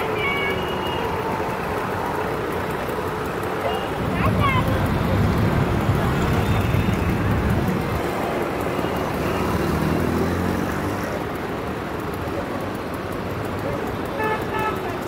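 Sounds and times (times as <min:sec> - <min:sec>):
passing vehicle engine: 0:00.0 - 0:14.1
street traffic rumble: 0:00.0 - 0:15.0.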